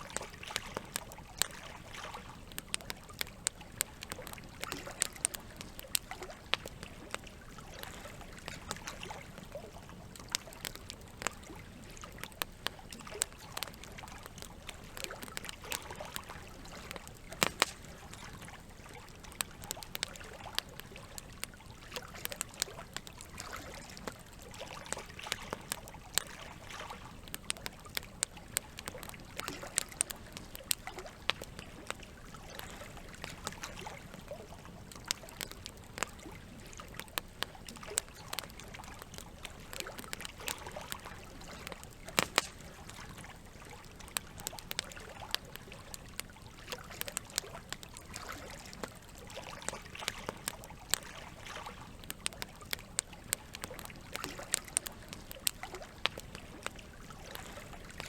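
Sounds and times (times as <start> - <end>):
campfire crackling and popping: 0.0 - 58.0
running water trickling: 0.0 - 58.0.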